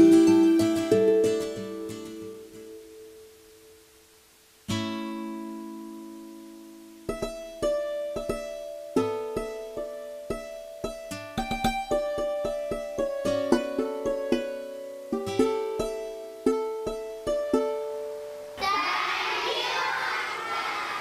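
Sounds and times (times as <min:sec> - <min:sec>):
acoustic guitar music: 0:00.0 - 0:18.6.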